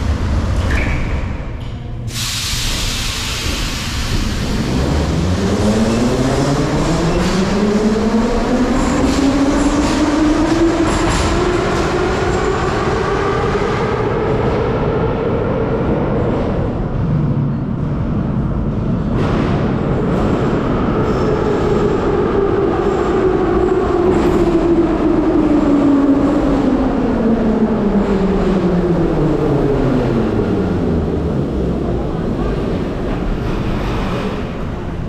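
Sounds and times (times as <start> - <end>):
wheels rumbling on rails: 0.0 - 35.0.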